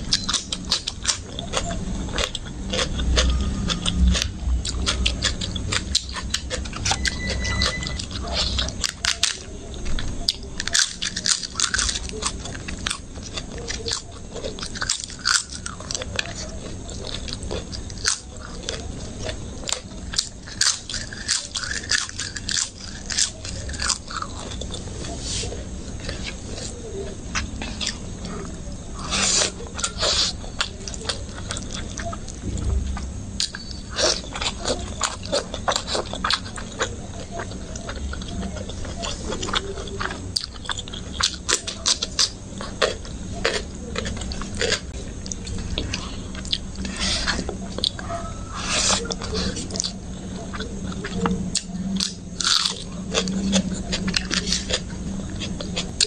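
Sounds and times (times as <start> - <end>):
chewing: 0.0 - 56.0
crunchy bites: 0.0 - 56.0.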